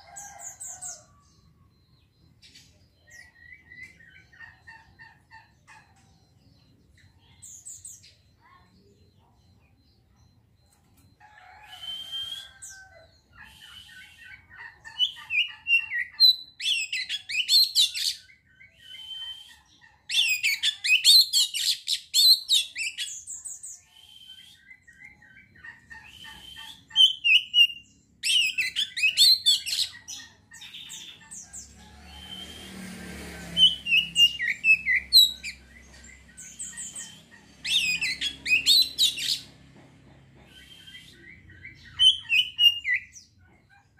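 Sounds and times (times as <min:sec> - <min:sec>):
bird singing: 0:00.0 - 0:43.9.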